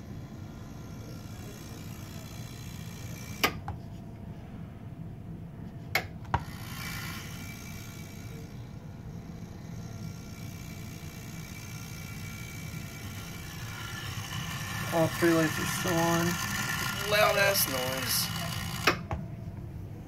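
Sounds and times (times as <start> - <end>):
pinball machine low hum: 0.0 - 20.0.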